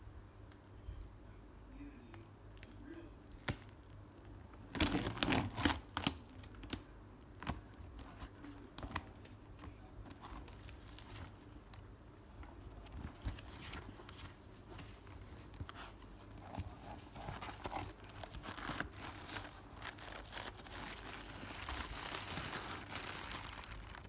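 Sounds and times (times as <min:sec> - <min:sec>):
plastic wrap and tape crinkling: 0:02.6 - 0:11.9, 0:12.5 - 0:24.0.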